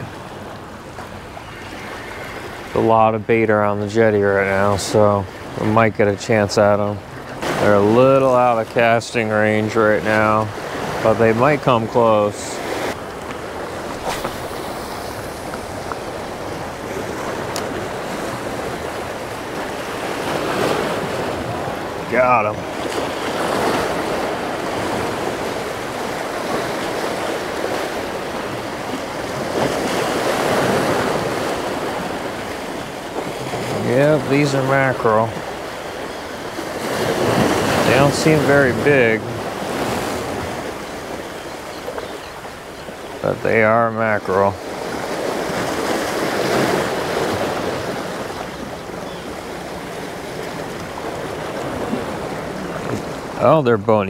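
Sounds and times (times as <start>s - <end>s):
sea waves washing against rocks: 0.0s - 54.0s.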